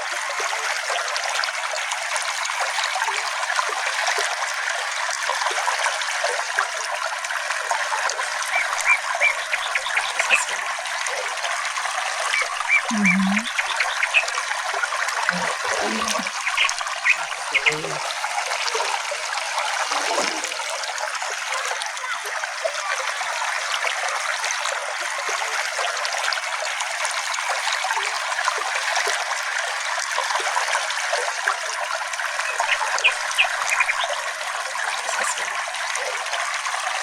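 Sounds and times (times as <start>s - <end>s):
creek trickling: 0.0s - 37.0s.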